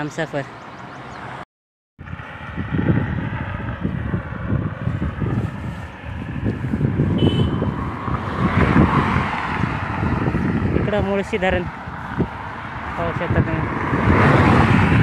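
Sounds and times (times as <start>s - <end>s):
wind buffeting microphone: 2.0s - 15.0s.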